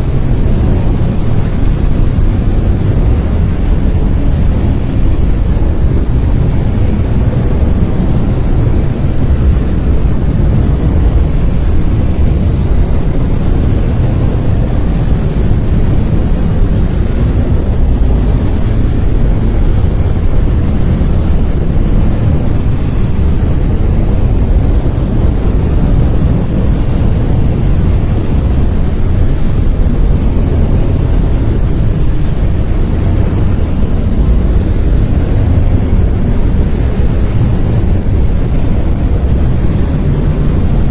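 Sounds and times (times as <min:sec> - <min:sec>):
brown noise: 0:00.0 - 0:40.9.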